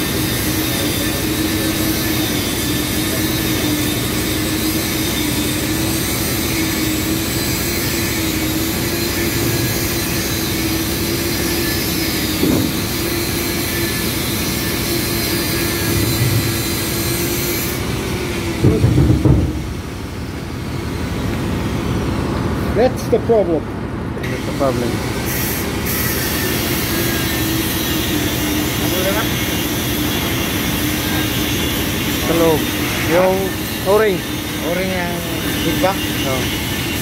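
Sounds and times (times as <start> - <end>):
engine room machinery drone: 0.0 - 37.0.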